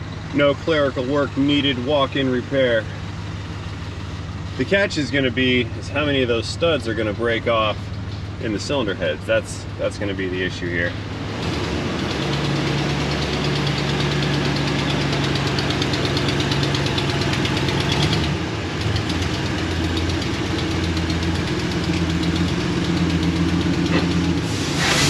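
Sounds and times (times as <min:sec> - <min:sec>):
rapid exhaust ticking: 0:00.0 - 0:24.5
truck engine running: 0:00.0 - 0:25.0.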